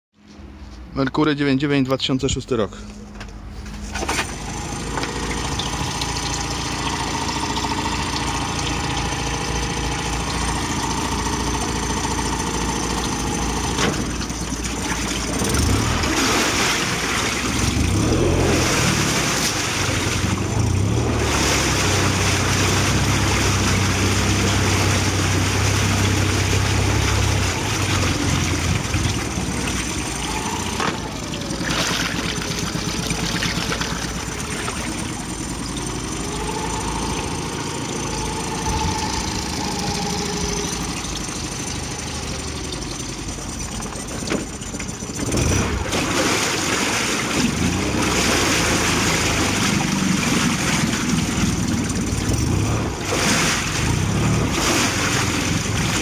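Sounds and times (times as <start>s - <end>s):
propeller churning water: 2.3s - 56.0s
outboard motor running: 2.8s - 56.0s.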